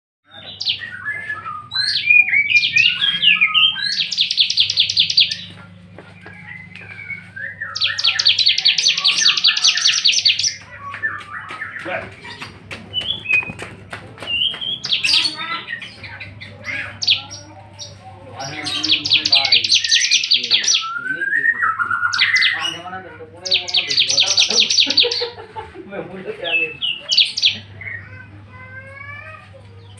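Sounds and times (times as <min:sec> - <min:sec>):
bird singing with buzzy trills: 0:00.3 - 0:13.6, 0:14.2 - 0:25.6, 0:26.2 - 0:28.7.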